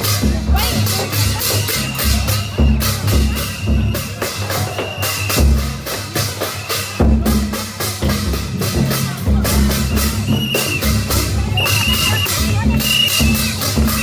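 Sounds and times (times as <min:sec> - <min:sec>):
cymbals clashing: 0:00.0 - 0:14.0
drums booming: 0:00.0 - 0:14.0.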